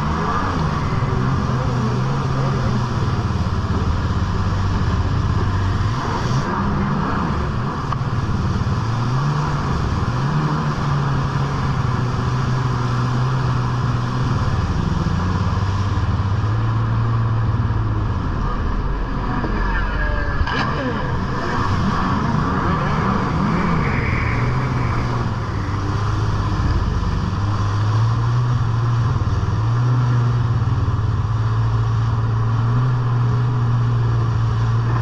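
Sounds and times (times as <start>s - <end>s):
jet ski engine running hard: 0.0s - 35.0s.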